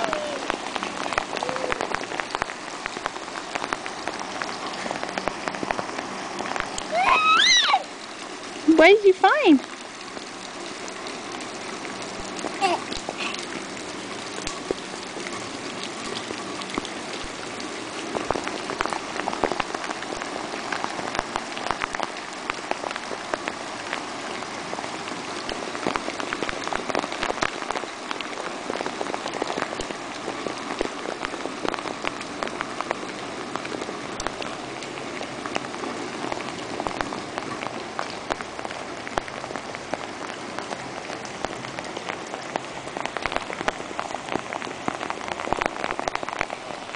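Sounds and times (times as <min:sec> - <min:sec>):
rain on hard surfaces: 0:00.0 - 0:46.9.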